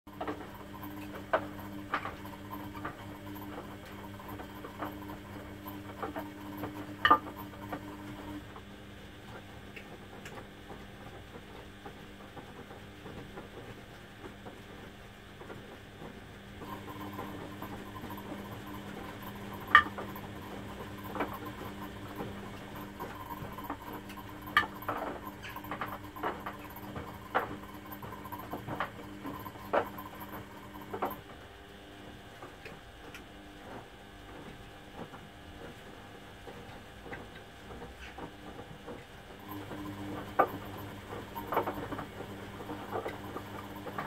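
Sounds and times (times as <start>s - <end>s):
washing machine motor humming: 0.1s - 44.0s.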